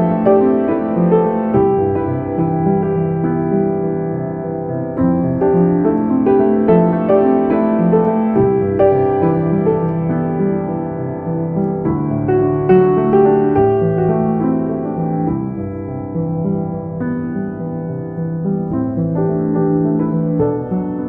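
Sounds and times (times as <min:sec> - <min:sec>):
slow gentle piano piece: 0:00.0 - 0:21.0.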